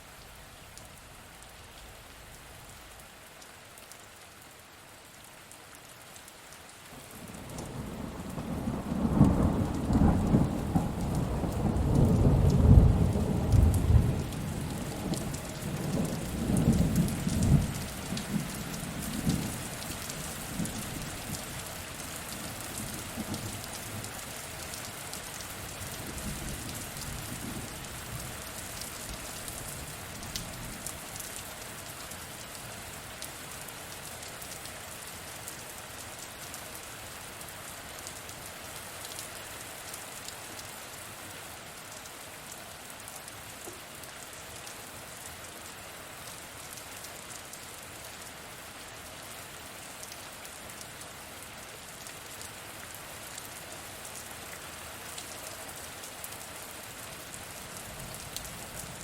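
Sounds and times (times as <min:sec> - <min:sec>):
heavy rain hiss: 0:06.9 - 0:59.0.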